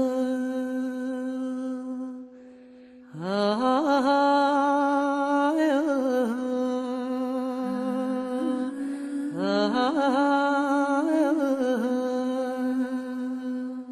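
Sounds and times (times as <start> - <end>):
person singing long held notes: 0.0 - 2.4, 3.0 - 13.9.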